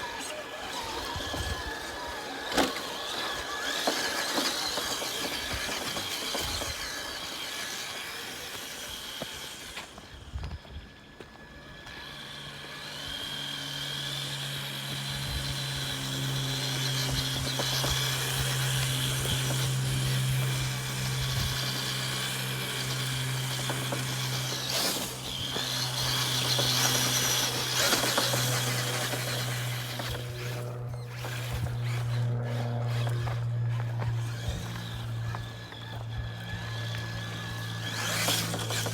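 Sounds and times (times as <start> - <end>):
constant rushing noise: 0.0 - 38.9
low motor hum: 0.0 - 38.9.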